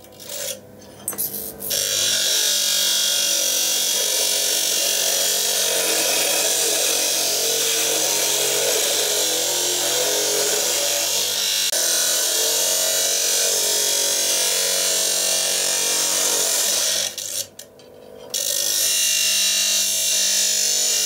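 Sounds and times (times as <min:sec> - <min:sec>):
cutting wheel grinding steel: 0:00.0 - 0:21.0.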